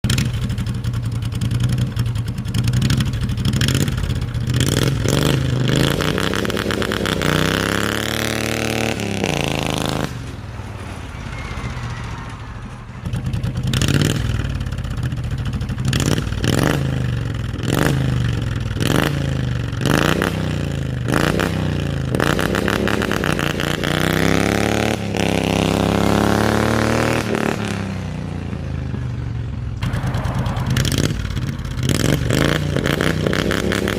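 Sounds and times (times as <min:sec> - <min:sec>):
engine revving: 0:00.0 - 0:29.0, 0:29.7 - 0:33.9.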